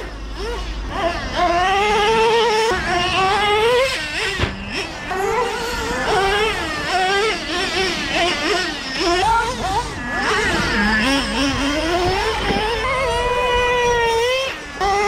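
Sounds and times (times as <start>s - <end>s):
small glow engine buzzing: 0.0s - 15.0s.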